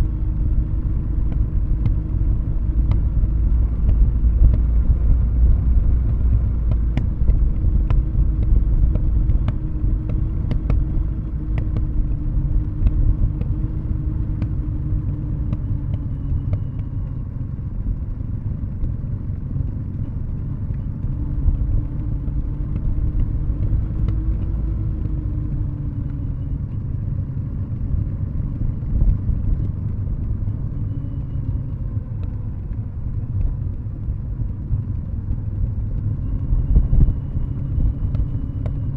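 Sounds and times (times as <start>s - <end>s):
motorcycle engine low rumble: 0.0s - 38.9s.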